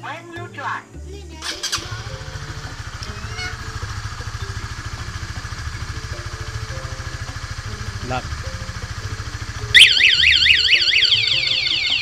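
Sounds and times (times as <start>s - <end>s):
motorcycle engine idling: 1.4s - 12.0s.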